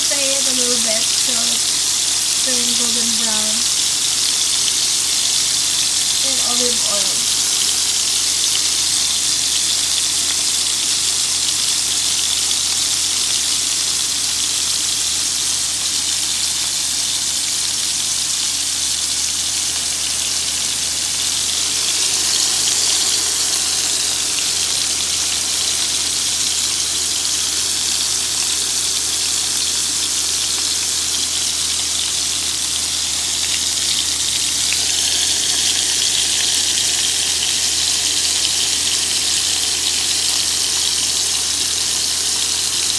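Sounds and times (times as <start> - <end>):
scallops sizzling in a frying pan: 0.0 - 42.9.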